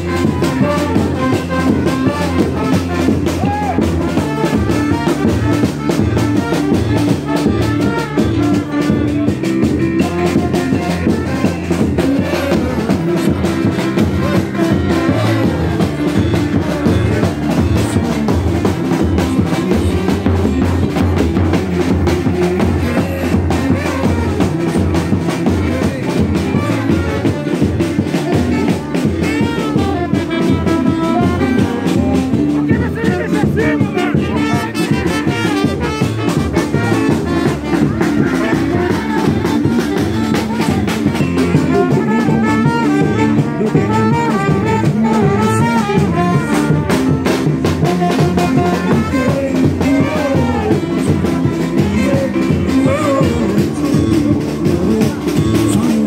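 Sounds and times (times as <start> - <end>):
brass band playing: 0.0 - 56.0
driving drum beat: 0.0 - 56.0.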